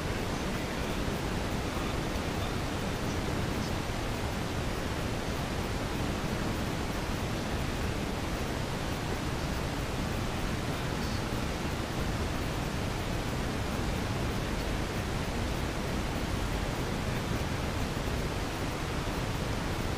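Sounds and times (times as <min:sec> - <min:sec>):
steady rushing noise: 0:00.0 - 0:19.9.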